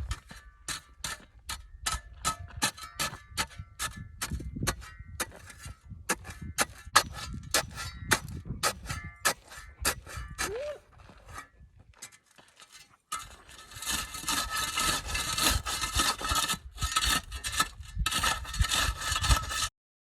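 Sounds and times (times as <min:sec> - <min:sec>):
gritty scraping in dirt: 0:00.0 - 0:19.7
metal tool striking dirt: 0:00.0 - 0:19.7.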